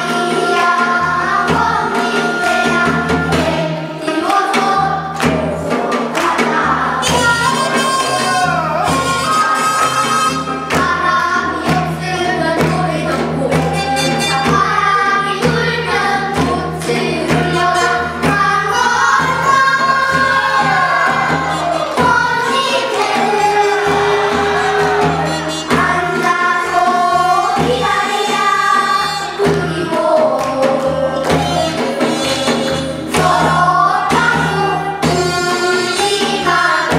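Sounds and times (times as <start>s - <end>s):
children's chorus singing: 0.0s - 36.9s
instrumental accompaniment: 0.0s - 36.9s
steady percussion beat: 0.0s - 36.9s.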